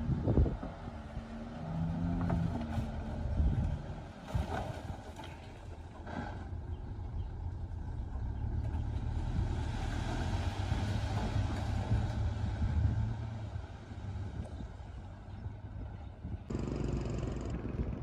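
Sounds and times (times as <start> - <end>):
diesel earthmoving machine rumbling: 0.0 - 18.0.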